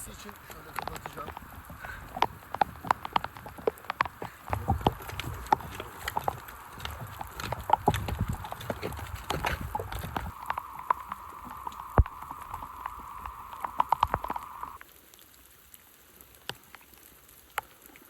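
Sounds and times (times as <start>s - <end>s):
scattered drips: 0.0s - 18.0s
steady rain: 0.0s - 18.0s.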